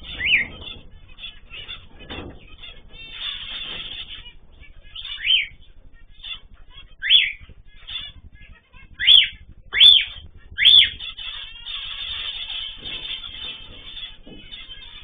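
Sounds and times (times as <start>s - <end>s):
cockatiel calling: 0.0s - 8.2s, 8.8s - 15.0s
birds chirping: 0.0s - 15.0s.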